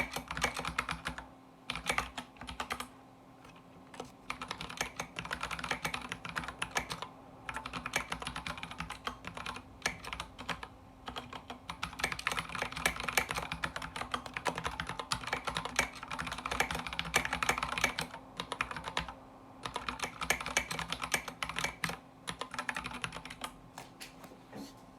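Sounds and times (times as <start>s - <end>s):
mechanical keyboard typing: 0.0s - 23.6s.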